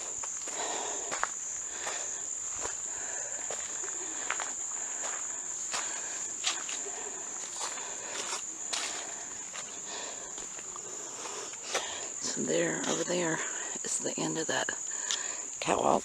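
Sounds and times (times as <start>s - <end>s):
footsteps on trail: 0.0s - 13.6s
high-pitched insect drone: 0.0s - 16.0s.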